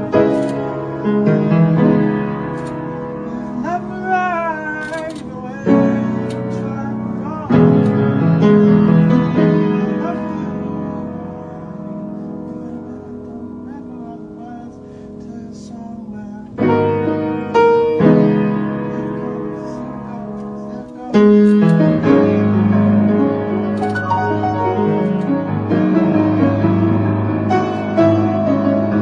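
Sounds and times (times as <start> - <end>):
piano chords: 0.0 - 29.0.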